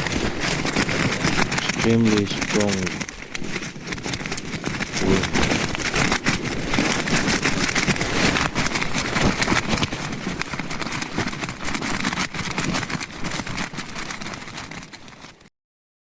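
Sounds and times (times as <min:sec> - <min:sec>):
tent fabric flapping: 0:00.0 - 0:15.5.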